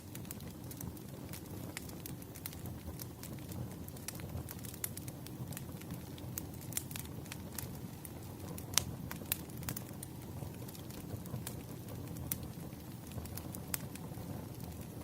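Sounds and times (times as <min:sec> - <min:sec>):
campfire crackling: 0:00.0 - 0:15.0
sharp pops of burning wood: 0:00.1 - 0:14.9.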